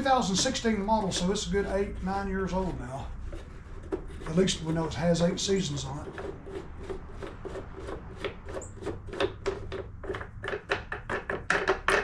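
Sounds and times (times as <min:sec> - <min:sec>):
rasping scraping strokes: 0:00.0 - 0:10.4.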